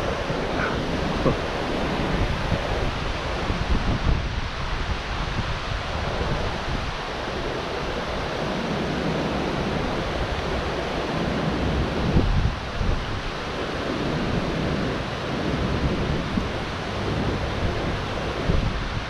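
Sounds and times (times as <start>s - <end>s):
water rushing over spillway: 0.0s - 19.0s
wind buffeting microphone: 0.0s - 19.0s.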